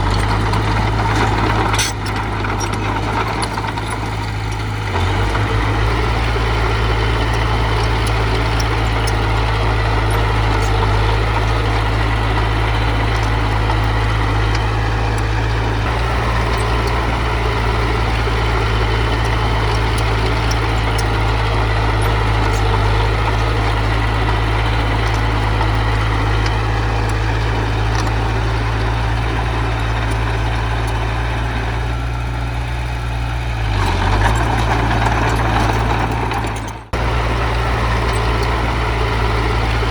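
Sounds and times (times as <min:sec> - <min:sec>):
heavy machinery diesel engine droning: 0:00.0 - 0:39.9.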